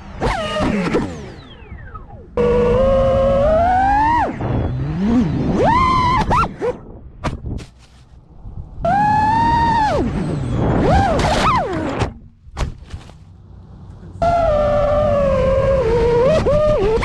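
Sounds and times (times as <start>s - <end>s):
drone motors whining: 0.0s - 7.2s, 8.2s - 12.5s, 13.3s - 17.0s.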